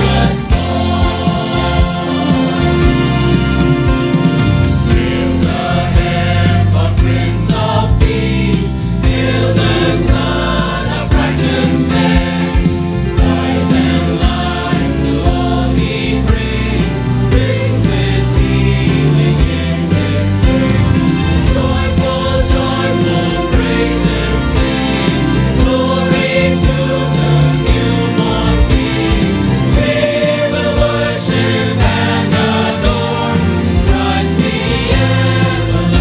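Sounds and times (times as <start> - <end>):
band with bass and drums: 0.0 - 36.0
choir singing: 0.0 - 36.0.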